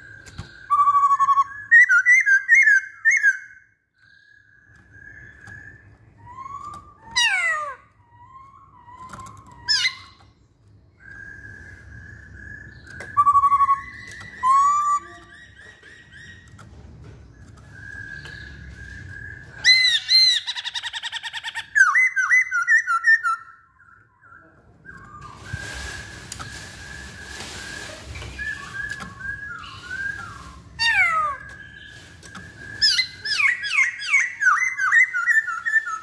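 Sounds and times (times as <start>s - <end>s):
bird singing whistled phrases: 0.0s - 10.2s, 10.9s - 16.5s, 17.3s - 36.0s.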